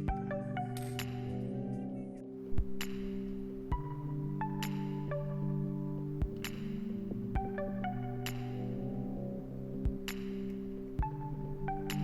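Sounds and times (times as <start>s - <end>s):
background music with sparse beat: 0.0s - 12.0s.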